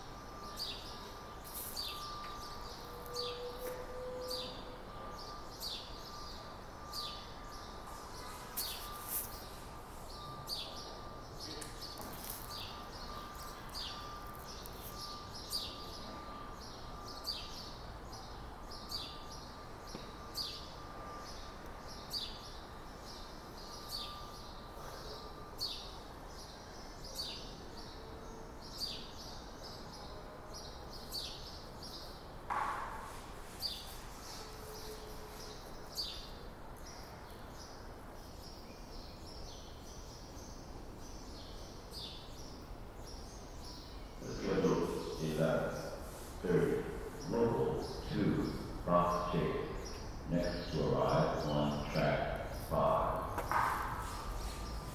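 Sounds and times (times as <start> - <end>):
background hum: 0.0 - 54.9
bird chirping: 0.0 - 54.9.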